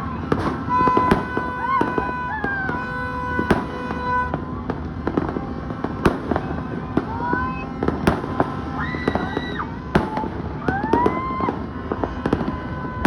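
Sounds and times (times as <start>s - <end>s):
fireworks popping and banging: 0.0s - 13.0s
loud firework blasts: 0.0s - 13.0s.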